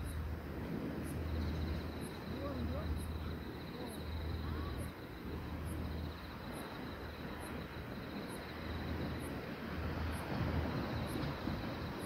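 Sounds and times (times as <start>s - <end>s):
insect trill: 0.0s - 12.0s
small waves on sandy shore: 0.0s - 12.0s.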